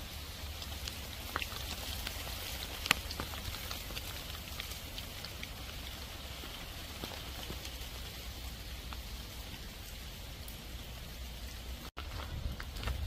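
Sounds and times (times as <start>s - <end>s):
heavy rain pouring: 0.0s - 13.0s
raindrops ticking: 0.0s - 13.0s.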